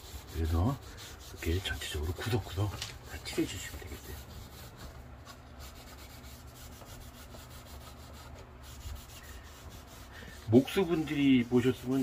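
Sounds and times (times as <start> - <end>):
cloth rubbing on wood: 0.0 - 12.0
low steady hum: 0.0 - 12.0.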